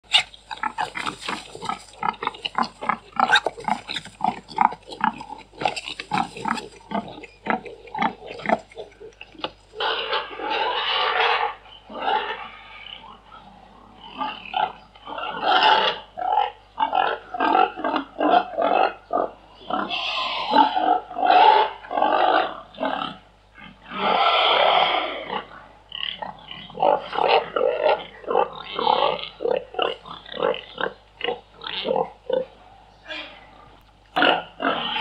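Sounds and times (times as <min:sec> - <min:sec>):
pig squealing: 0:00.1 - 0:32.5, 0:33.1 - 0:35.0
pigs grunting: 0:00.1 - 0:35.0.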